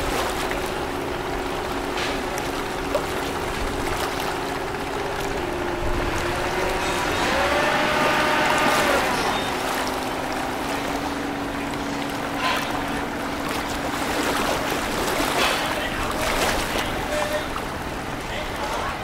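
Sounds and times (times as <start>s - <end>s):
boat engine humming: 0.0s - 19.0s
water washing: 0.0s - 19.0s.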